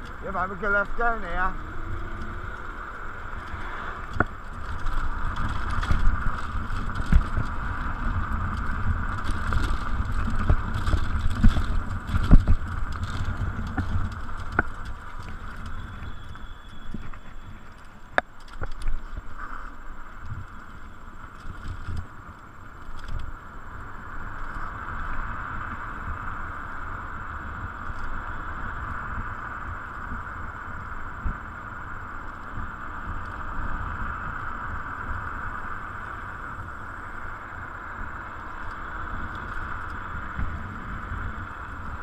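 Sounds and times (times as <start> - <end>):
electric scooter hum: 0.0 - 42.0
wind and tyre rumble: 0.0 - 42.0.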